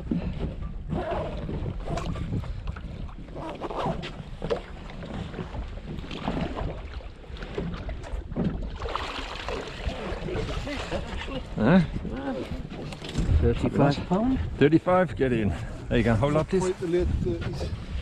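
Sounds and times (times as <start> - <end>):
wind on microphone: 0.0 - 6.9, 9.6 - 18.0.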